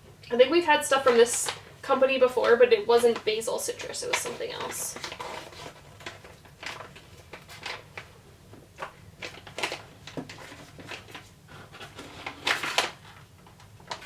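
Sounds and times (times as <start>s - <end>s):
plastic bag crinkling: 0.9s - 8.2s, 8.8s - 14.0s.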